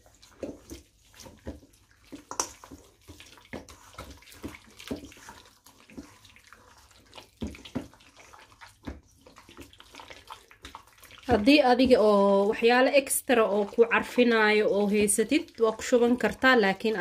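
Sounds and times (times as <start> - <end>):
meat squelching by hand in sauce: 0.0 - 17.0.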